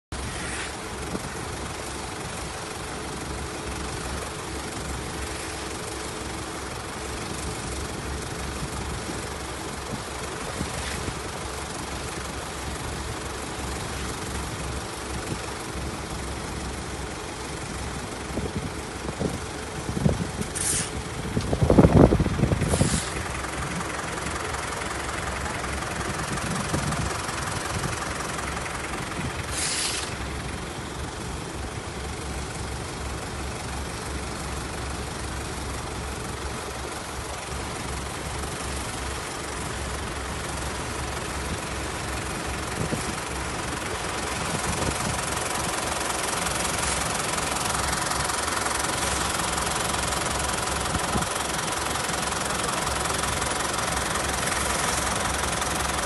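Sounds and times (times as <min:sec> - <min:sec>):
engine low pulsing rumble: 0:00.1 - 0:56.0.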